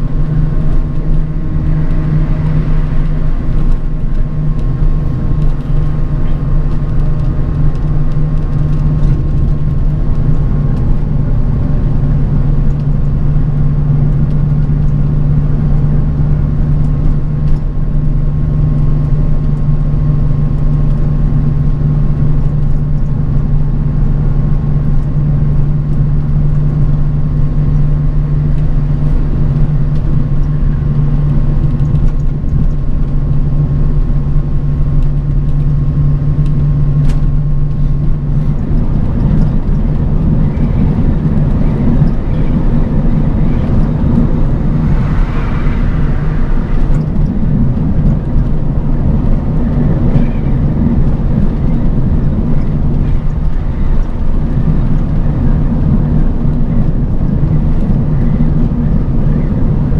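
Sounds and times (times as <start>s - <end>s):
bus engine drone: 0.0s - 59.9s
faint whine: 0.0s - 59.9s
road rumble: 0.0s - 59.9s.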